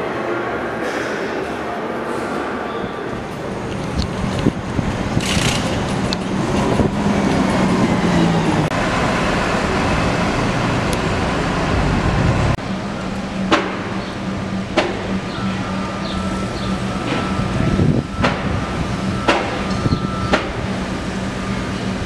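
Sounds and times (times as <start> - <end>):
street traffic: 0.0 - 22.0
bus engine passing: 0.1 - 22.0.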